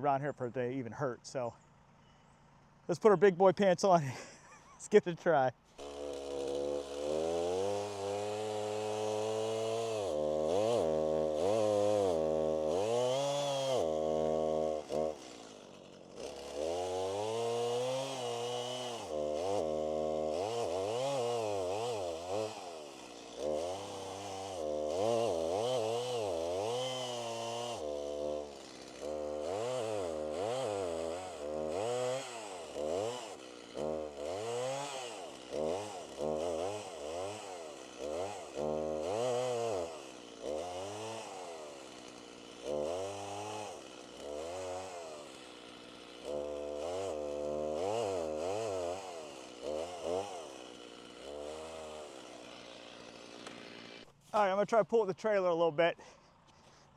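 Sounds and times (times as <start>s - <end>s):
chainsaw cutting revving: 0.0s - 56.9s.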